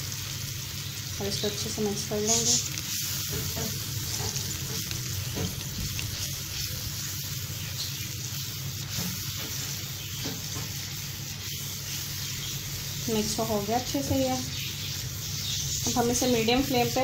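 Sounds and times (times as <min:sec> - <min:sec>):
masala sizzling in oil: 0:00.0 - 0:17.0
spatula stirring in pan: 0:01.9 - 0:17.0.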